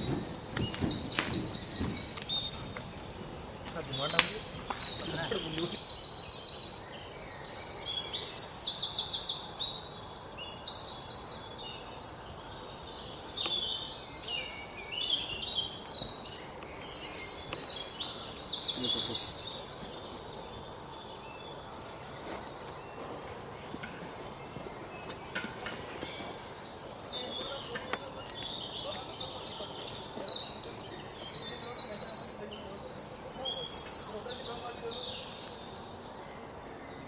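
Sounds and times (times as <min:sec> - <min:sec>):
birds singing trilled notes: 0:00.0 - 0:37.0.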